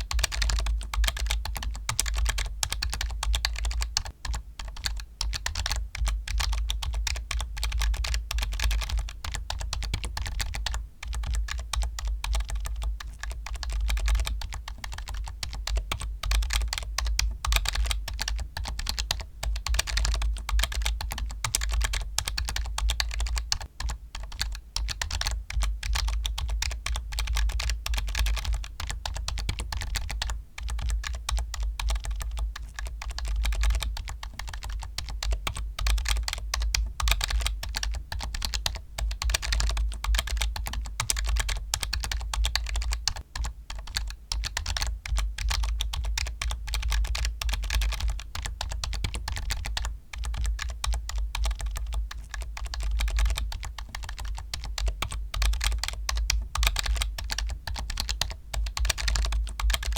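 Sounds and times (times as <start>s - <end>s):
fast typing on a keyboard: 0.0s - 59.9s.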